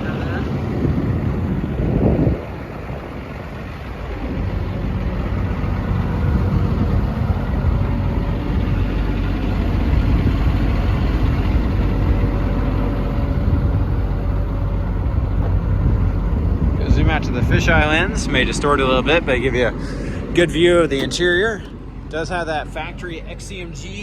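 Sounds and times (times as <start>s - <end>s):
excavator diesel engine idling: 0.0s - 24.0s.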